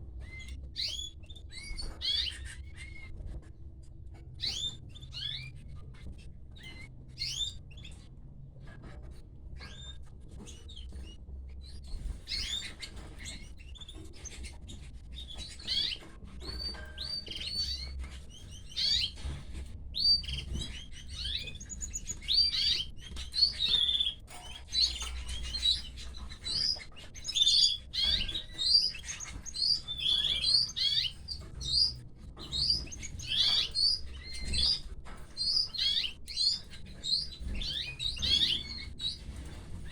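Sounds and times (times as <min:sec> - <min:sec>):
canaries chirping: 0:00.1 - 0:03.5, 0:04.1 - 0:39.9.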